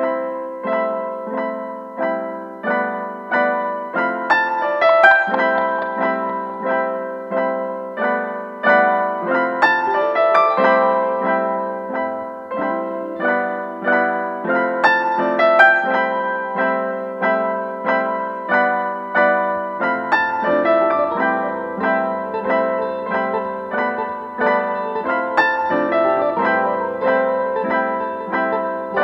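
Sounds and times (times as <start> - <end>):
gentle piano melody: 0.0 - 29.0.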